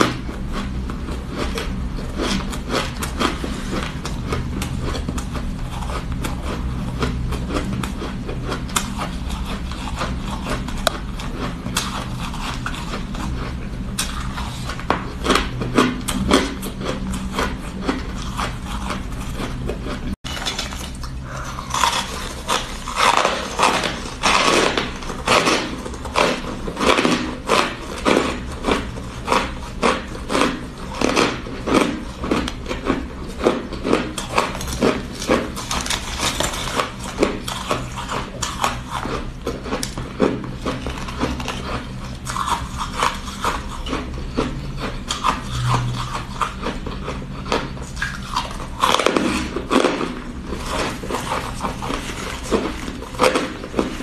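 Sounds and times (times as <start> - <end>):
chewing crunchy shaved ice: 0.0 - 54.0.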